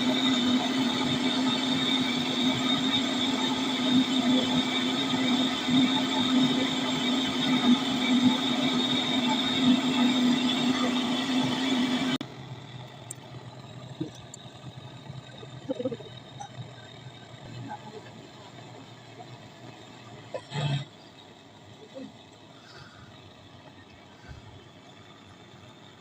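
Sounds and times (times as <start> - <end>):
motor machine humming and whining: 0.0 - 26.0.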